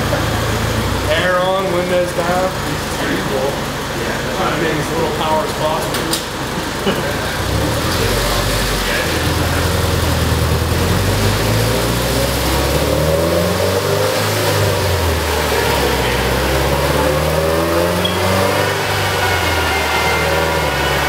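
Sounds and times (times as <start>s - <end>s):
car engine with loud exhaust: 0.0s - 21.0s.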